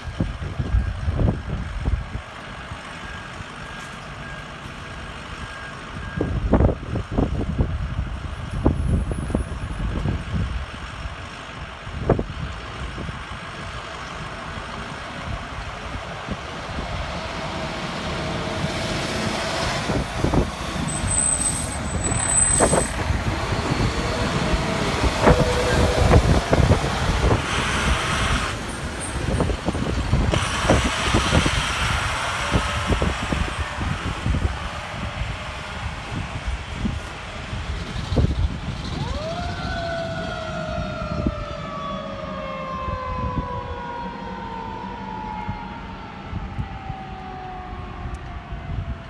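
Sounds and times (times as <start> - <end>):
fire truck engines driving past: 0.0 - 49.0.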